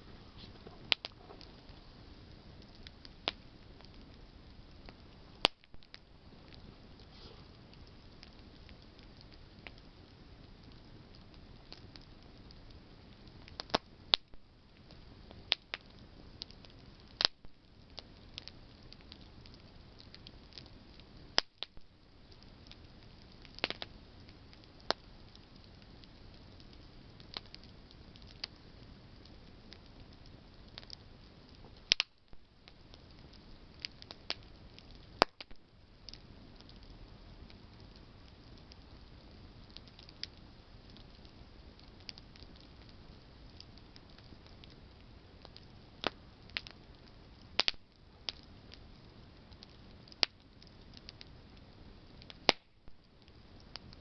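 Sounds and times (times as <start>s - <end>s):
campfire crackling and popping: 0.0s - 54.0s
low hiss of flames: 0.0s - 54.0s.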